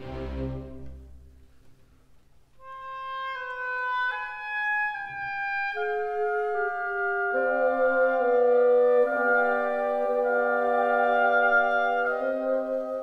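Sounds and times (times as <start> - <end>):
low accompanying notes: 0.0 - 13.0
slow woodwind-like melody: 2.6 - 13.0.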